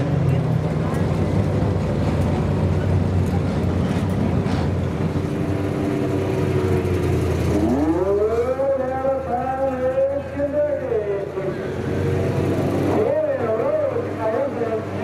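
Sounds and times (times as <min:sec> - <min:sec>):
race car engine revving: 0:00.0 - 0:15.0
race car engines running: 0:00.0 - 0:15.0.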